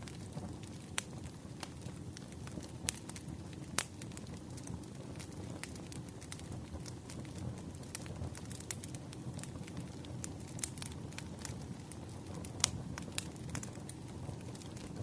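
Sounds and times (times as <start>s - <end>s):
campfire burning rumble: 0.0s - 15.0s
fire popping and snapping: 0.0s - 15.0s.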